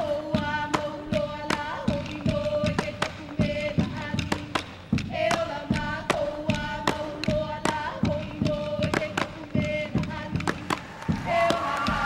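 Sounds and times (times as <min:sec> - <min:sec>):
drum beat with thuds and taps: 0:00.0 - 0:12.0.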